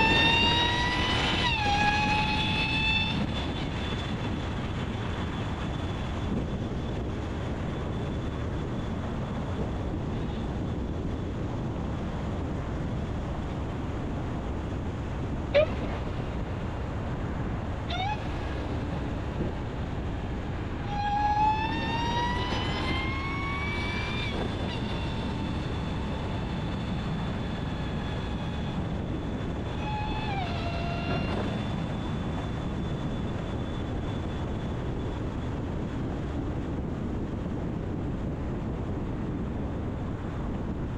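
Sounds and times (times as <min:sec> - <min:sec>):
car engine and road drone: 0:00.0 - 0:40.9
supercharger whine: 0:00.0 - 0:40.9.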